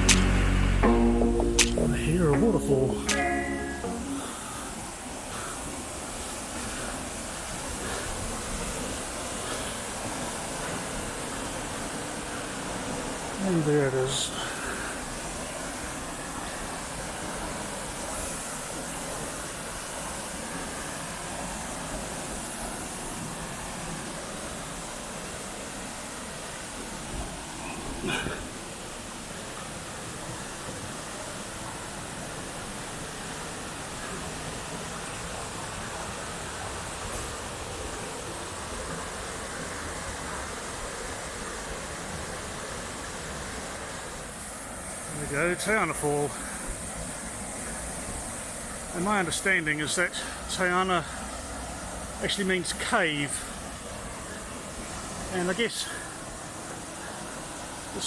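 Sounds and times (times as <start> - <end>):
waterfall rushing into a pool: 0.0 - 58.0.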